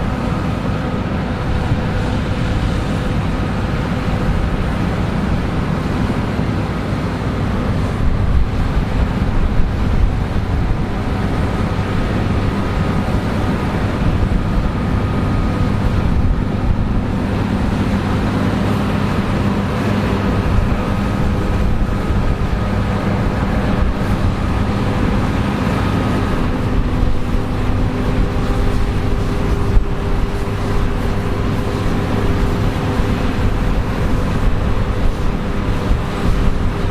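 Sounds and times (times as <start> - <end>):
combine harvester engine drone: 0.0 - 36.9.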